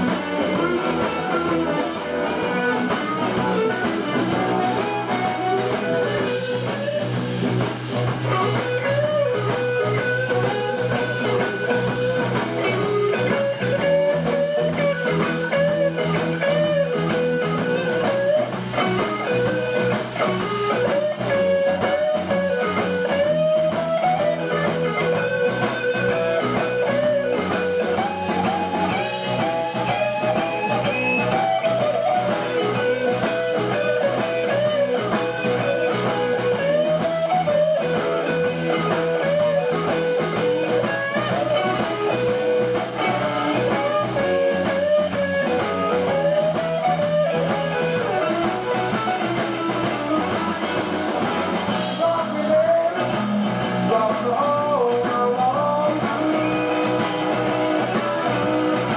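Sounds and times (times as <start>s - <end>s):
electric guitar: 0.0s - 58.9s
harmonica: 0.0s - 58.9s
steady drum beat: 0.0s - 58.9s.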